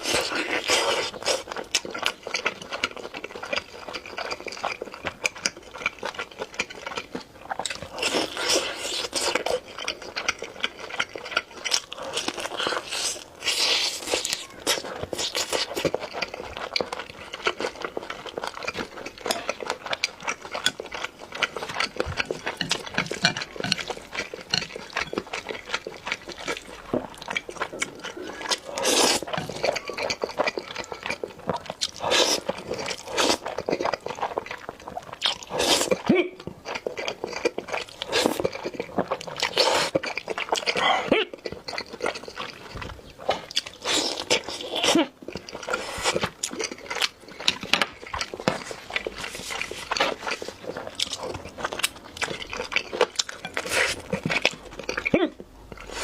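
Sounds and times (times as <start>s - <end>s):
person crunching and chewing food: 0.0s - 56.0s.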